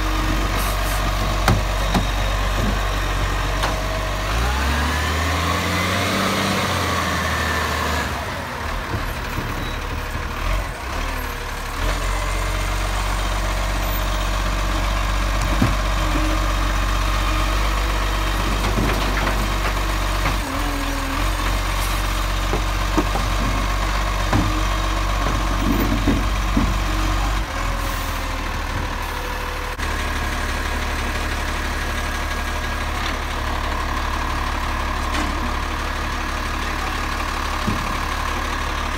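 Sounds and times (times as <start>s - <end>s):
garbage truck engine: 0.0s - 38.9s.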